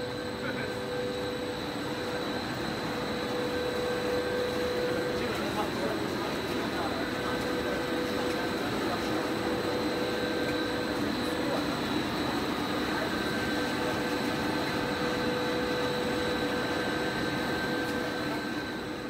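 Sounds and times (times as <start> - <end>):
machine drone with high whine: 0.0 - 19.0.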